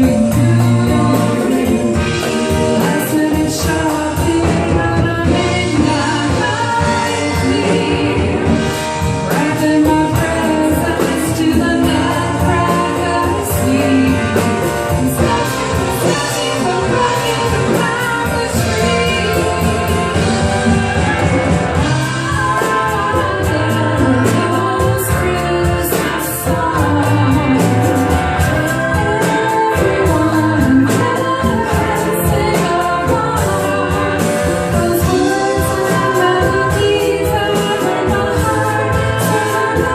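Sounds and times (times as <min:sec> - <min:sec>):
live band with singers: 0:00.0 - 0:39.9
steady drum beat: 0:00.0 - 0:39.9.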